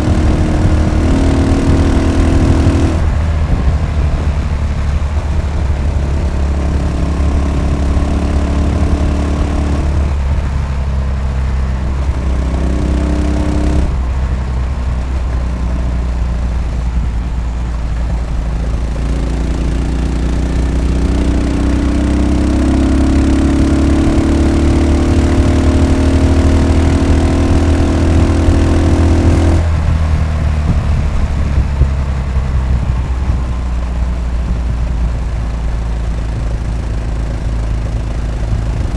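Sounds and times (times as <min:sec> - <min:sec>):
single-cylinder motorcycle engine thumping: 0:00.0 - 0:38.9.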